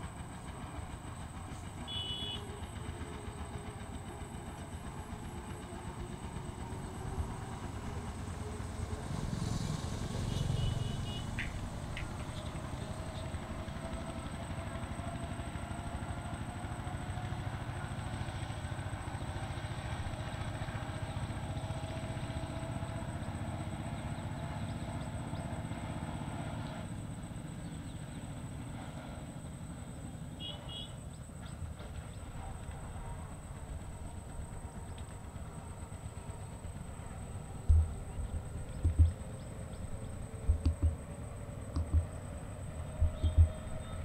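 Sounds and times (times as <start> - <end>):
distant engine humming: 0.0 - 44.0.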